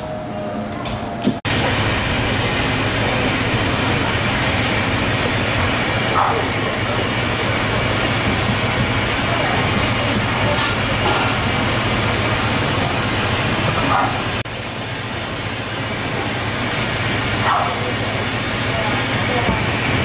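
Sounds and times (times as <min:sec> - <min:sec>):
loud machinery drone: 0:00.0 - 0:20.0.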